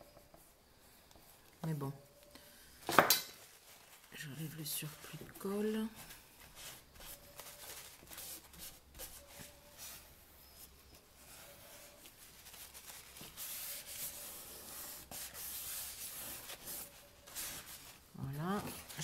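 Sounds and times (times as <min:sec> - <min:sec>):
tissue rubbing over paper: 0:03.4 - 0:19.0.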